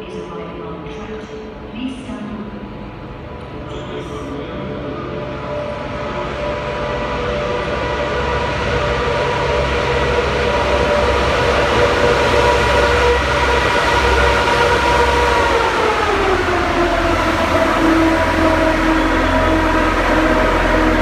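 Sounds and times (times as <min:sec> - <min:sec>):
diesel train arriving: 0:00.0 - 0:21.0.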